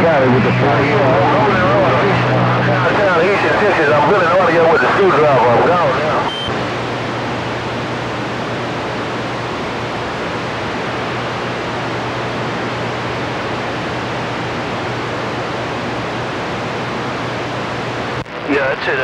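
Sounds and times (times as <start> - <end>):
low steady hum: 0.0 - 18.3
radio static hiss: 0.0 - 19.0.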